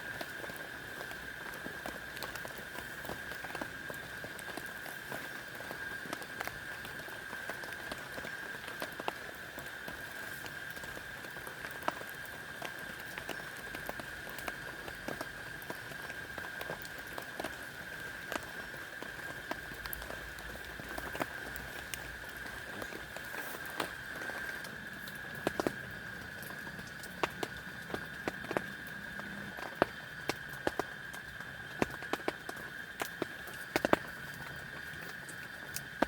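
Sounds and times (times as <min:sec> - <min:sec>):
rain pattering: 0:00.0 - 0:36.0.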